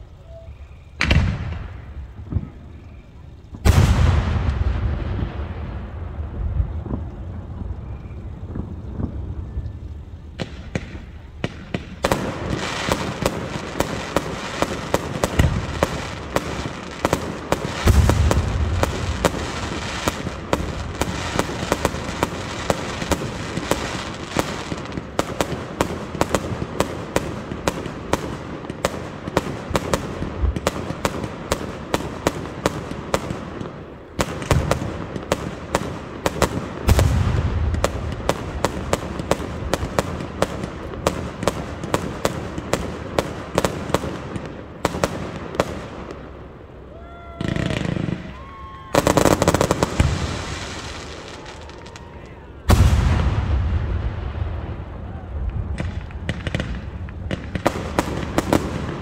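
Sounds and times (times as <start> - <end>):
fireworks crackling and banging: 0.0 - 59.0
deep firework booms: 1.0 - 46.3, 47.3 - 59.0.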